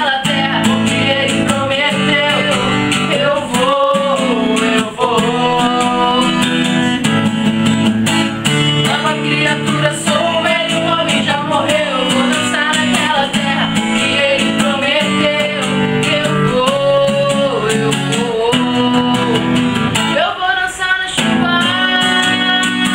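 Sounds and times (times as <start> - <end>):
person singing gospel song: 0.0 - 7.2, 8.5 - 22.9
acoustic guitar: 0.0 - 22.9.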